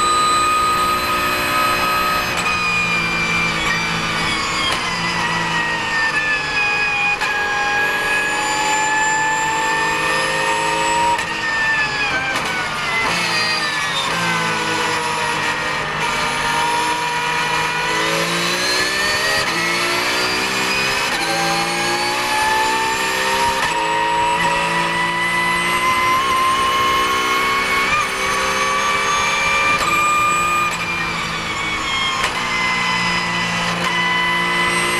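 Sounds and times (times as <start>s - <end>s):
race car engine at full throttle: 0.0s - 34.9s.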